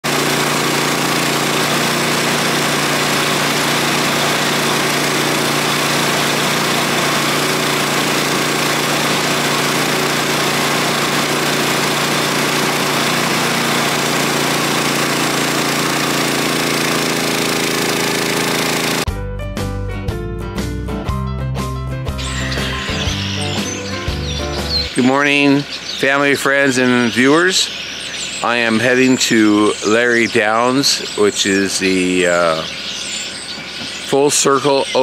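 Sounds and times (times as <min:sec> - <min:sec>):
small engine running: 0:00.0 - 0:19.1, 0:22.2 - 0:35.0.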